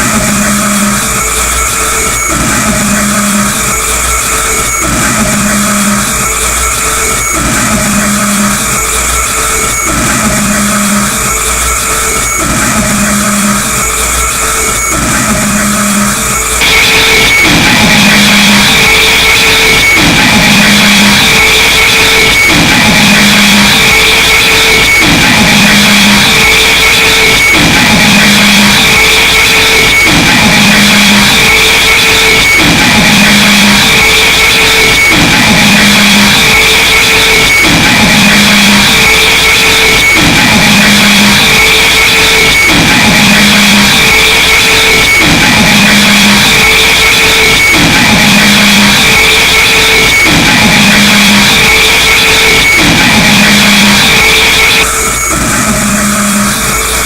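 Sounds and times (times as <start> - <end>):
distorted noise wall: 0.0 - 57.0.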